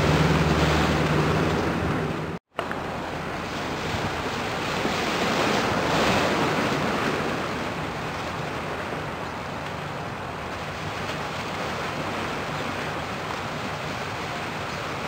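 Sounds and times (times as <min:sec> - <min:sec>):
waves washing ashore: 0:00.0 - 0:15.0.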